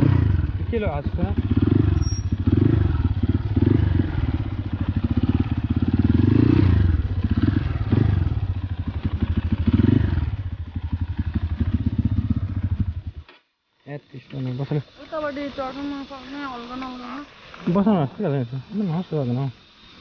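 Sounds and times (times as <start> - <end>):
motorcycle engine revving: 0.0 - 13.4, 14.0 - 20.0.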